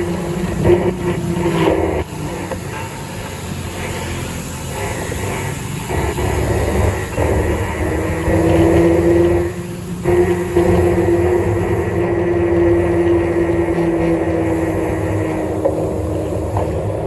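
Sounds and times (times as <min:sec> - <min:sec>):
road and wind noise: 0:00.0 - 0:17.0
vehicle engine droning: 0:00.0 - 0:17.0.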